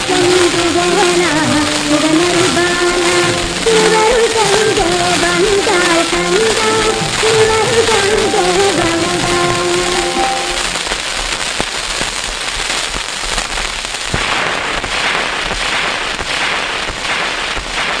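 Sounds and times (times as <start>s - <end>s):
gramophone record hiss and crackle: 0.0s - 18.0s.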